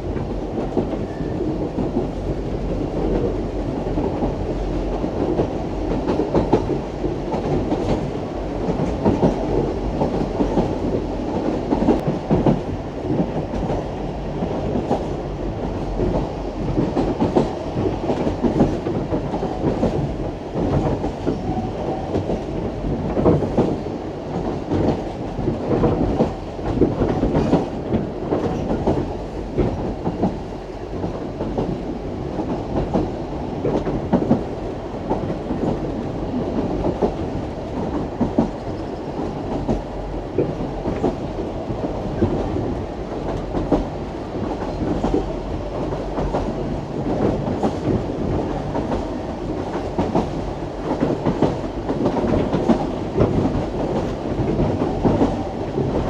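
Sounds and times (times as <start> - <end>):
train carriages rumbling: 0.0 - 56.0.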